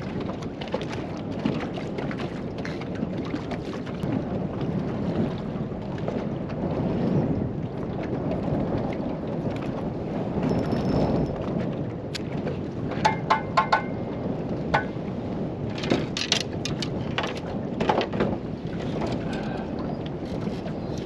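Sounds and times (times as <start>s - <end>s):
water splashing against boat: 0.0s - 21.0s
wind buffeting microphone: 0.0s - 21.0s.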